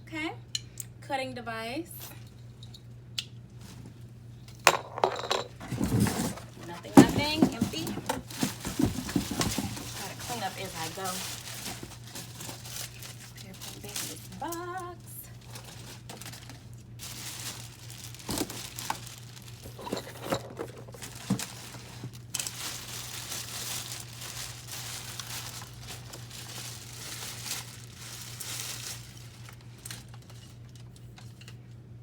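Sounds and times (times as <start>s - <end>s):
packaging rustling and crinkling: 5.6s - 31.6s.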